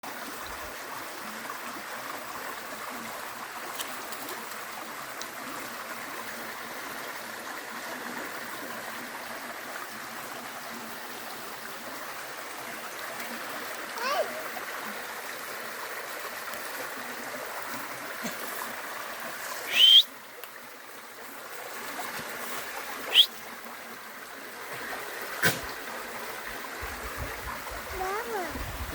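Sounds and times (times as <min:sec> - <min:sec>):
stream babbling over stones: 0:00.0 - 0:28.9.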